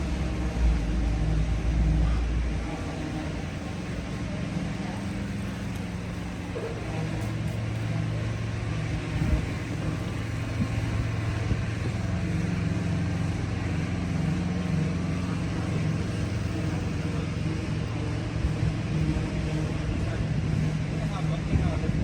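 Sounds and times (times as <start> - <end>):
city outdoor noise: 0.0 - 22.0
engine humming: 0.0 - 22.0.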